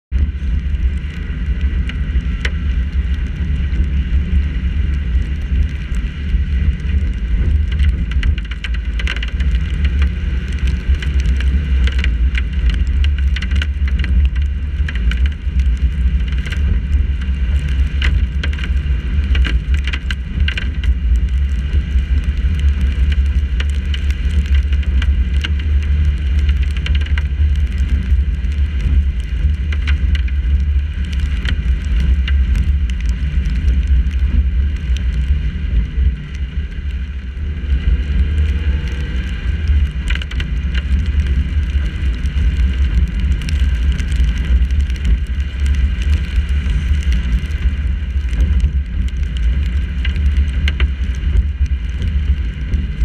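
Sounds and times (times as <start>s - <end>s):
car driving on wet streets: 0.1s - 53.0s
raindrops ticking on camera: 0.1s - 53.0s.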